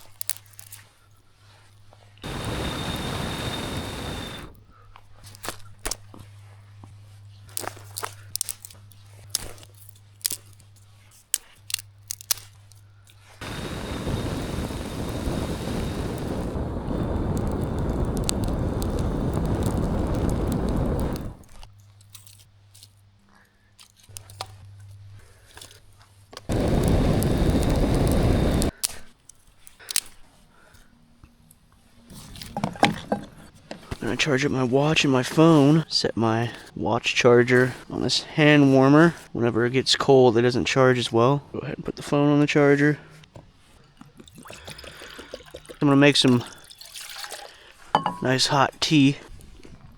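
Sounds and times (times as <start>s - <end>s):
campfire coals crackling: 0.0s - 49.9s.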